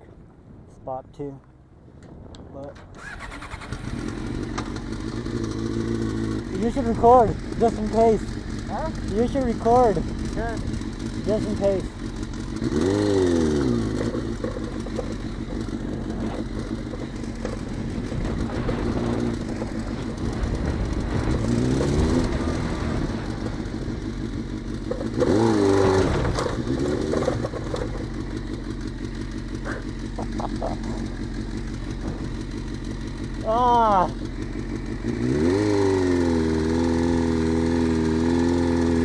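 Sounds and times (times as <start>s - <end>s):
motorcycle engine idling and revving: 1.2s - 39.0s.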